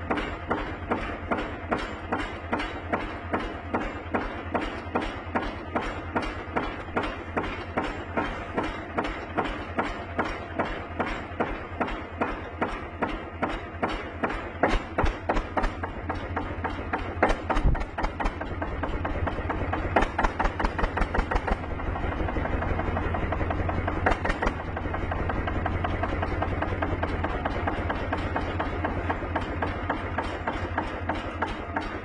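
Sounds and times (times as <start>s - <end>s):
knocks and clatter: 0.0s - 32.0s
tractor engine running: 0.0s - 32.0s.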